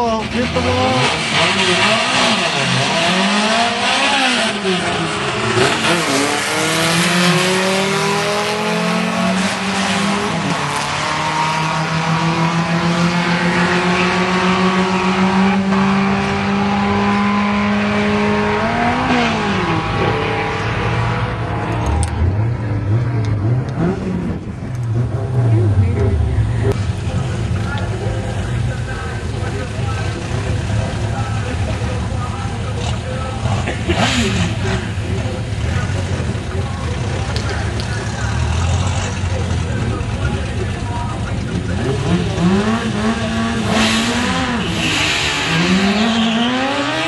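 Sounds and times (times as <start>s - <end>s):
drag racing engines revving: 0.0s - 47.0s.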